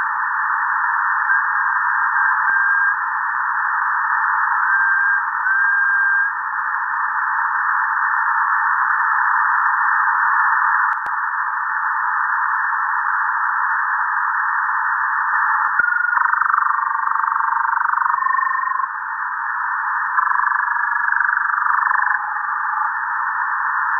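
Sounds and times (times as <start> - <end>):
radio static hiss: 0.0 - 23.9
warbling digital data tones: 0.0 - 23.9.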